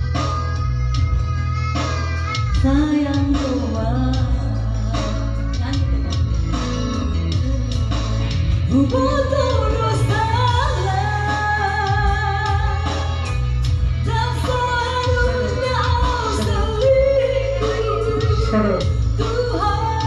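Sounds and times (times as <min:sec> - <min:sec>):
heavy bass line: 0:00.0 - 0:20.0.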